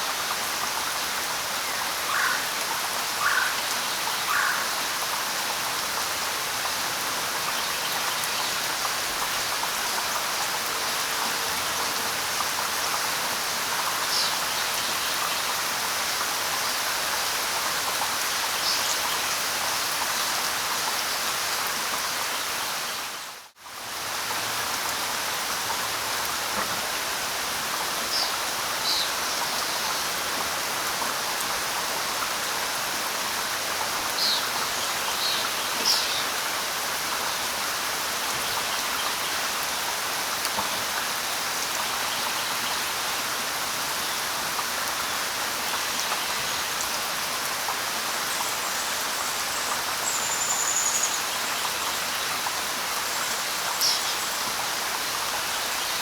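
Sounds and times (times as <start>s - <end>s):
light rain on leaves: 0.0s - 56.0s.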